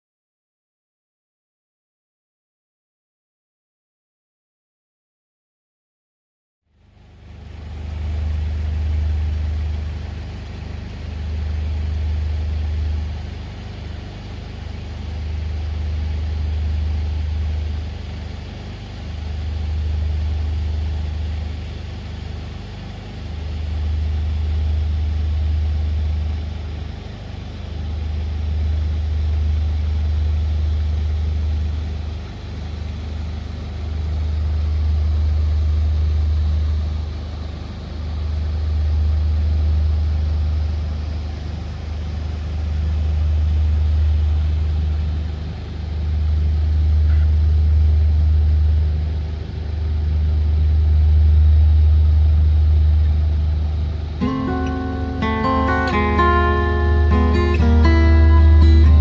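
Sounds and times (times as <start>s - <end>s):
deep diesel engine drone: 6.7s - 59.0s.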